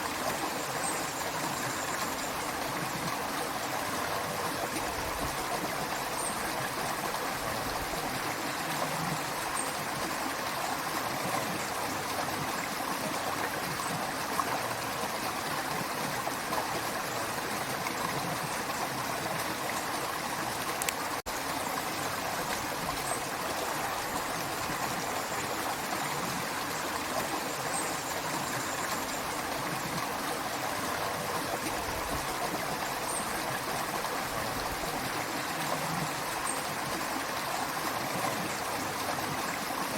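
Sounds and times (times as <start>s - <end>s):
creek water rushing and gurgling: 0.0s - 39.9s.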